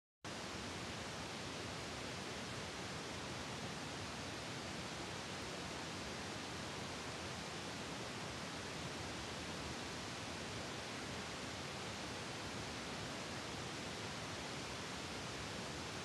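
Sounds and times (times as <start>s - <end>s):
steady background hiss: 0.3s - 16.0s.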